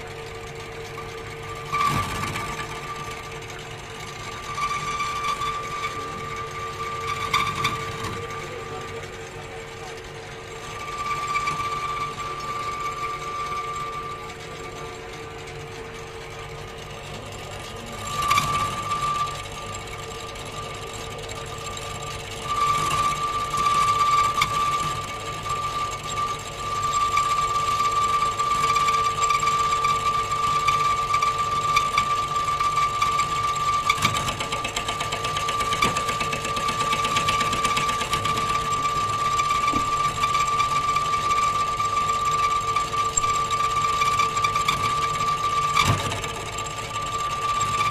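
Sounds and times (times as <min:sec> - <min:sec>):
lathe tool cutting metal: 0:00.0 - 0:47.9
lathe whining: 0:00.0 - 0:47.9.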